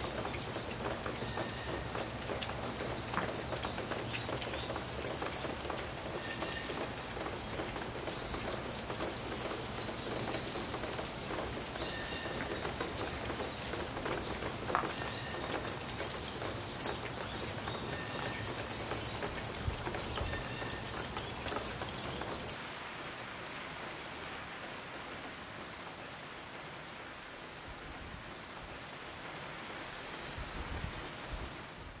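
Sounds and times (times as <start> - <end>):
rain drops ticking: 0.0 - 32.0
steady rain hiss: 0.0 - 32.0.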